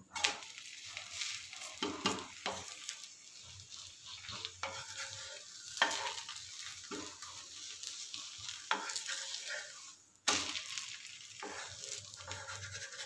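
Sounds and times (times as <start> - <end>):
crepe sizzling in a pan: 0.0 - 13.0
wooden spatula scraping a pan: 0.0 - 13.0.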